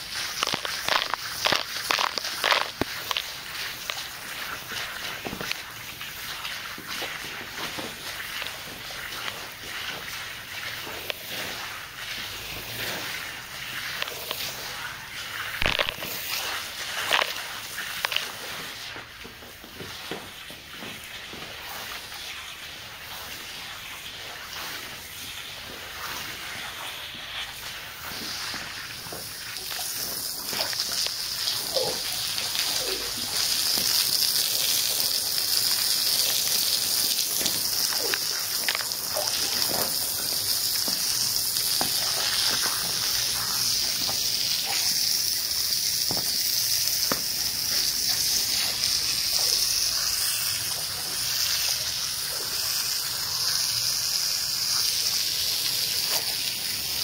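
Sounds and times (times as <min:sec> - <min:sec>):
hose water spraying on rug: 0:00.0 - 0:57.0.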